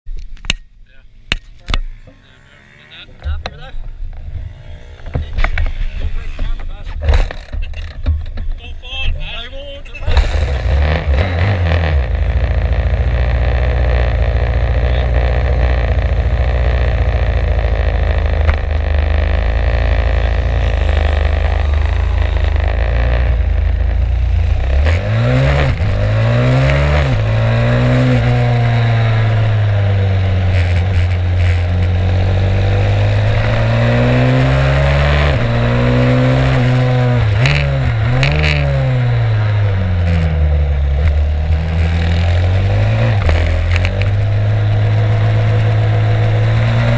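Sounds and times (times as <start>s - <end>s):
motorbike engine revving: 1.6s - 46.9s.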